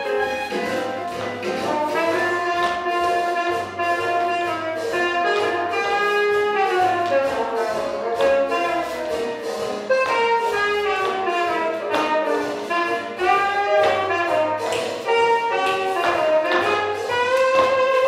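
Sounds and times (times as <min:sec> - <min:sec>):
bass line: 0:00.0 - 0:18.0
horns playing melody: 0:00.0 - 0:18.0.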